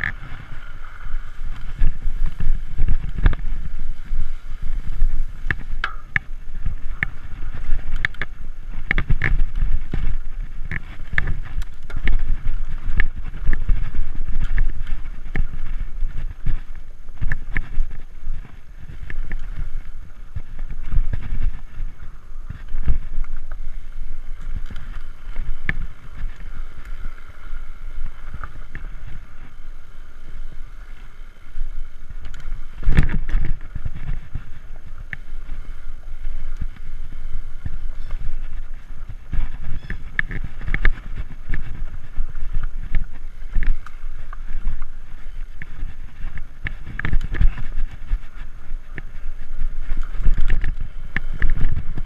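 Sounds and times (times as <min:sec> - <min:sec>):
wind on microphone: 0:00.0 - 0:52.0
bike rattling and knocking: 0:01.2 - 0:52.0.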